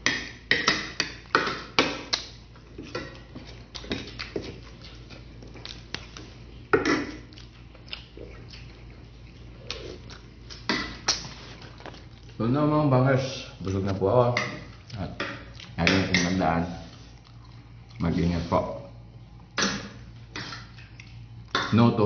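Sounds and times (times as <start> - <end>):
chewing and lip smacks: 1.0 - 12.4, 13.5 - 18.3, 19.0 - 21.6.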